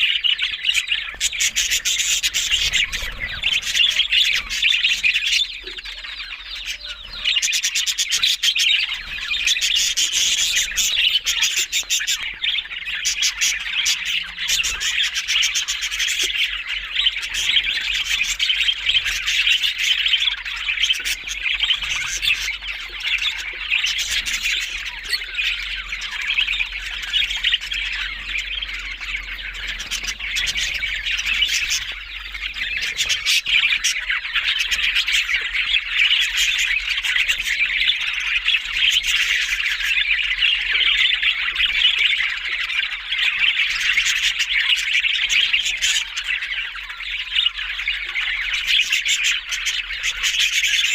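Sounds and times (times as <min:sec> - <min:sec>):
budgerigars chirping: 0:00.0 - 0:50.9
budgerigars squawking: 0:00.0 - 0:50.9.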